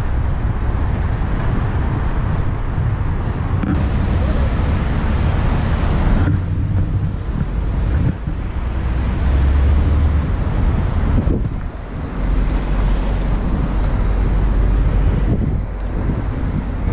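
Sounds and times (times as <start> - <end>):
road traffic noise: 0.0 - 16.9
wind buffeting microphone: 0.0 - 16.9.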